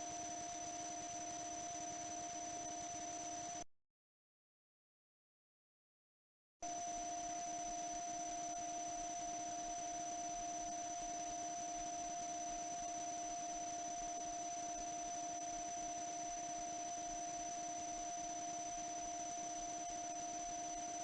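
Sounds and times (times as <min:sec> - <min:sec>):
electrical hum and whine: 0:00.0 - 0:03.6, 0:06.6 - 0:21.0.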